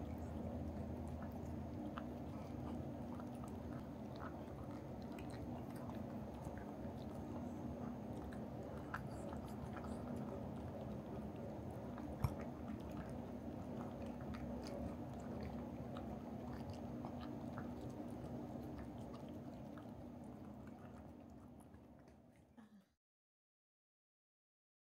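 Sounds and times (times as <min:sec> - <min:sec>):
cat chewing food: 0:00.0 - 0:22.6.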